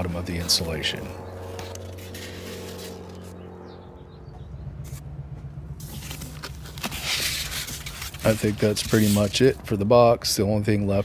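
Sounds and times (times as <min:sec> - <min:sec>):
low motor-like hum: 0:00.0 - 0:09.2.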